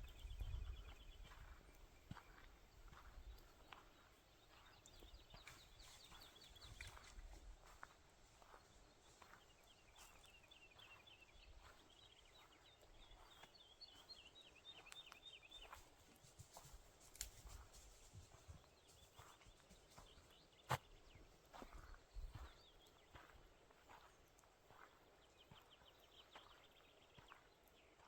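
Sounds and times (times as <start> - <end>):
faint songbird singing: 0.0 - 28.0
footsteps on forest floor: 1.1 - 28.0.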